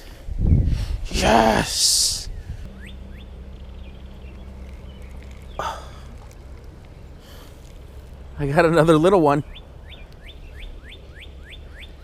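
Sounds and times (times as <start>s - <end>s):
steady low hum: 2.3s - 12.0s.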